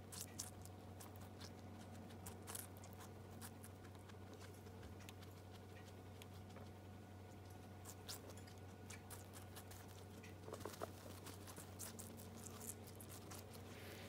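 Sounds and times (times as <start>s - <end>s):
guinea pigs crunching watermelon: 0.0s - 14.0s
steady low hum: 0.0s - 14.0s.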